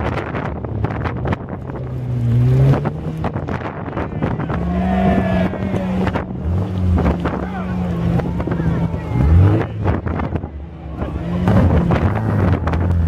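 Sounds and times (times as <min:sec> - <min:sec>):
car engine pulling hard: 0:00.0 - 0:13.0.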